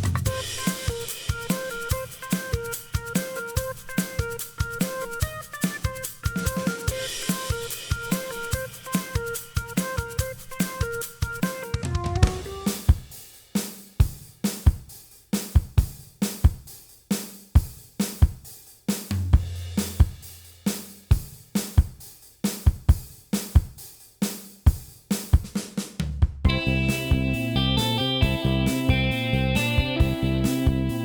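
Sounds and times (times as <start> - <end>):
drum kit beat: 0.0 - 31.0.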